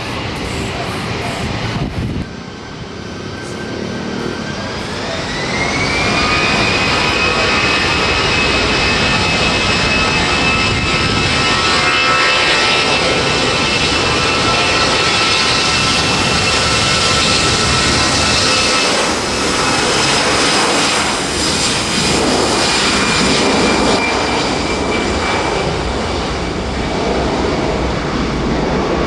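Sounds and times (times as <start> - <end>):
jet engines spooling up: 0.0 - 29.0.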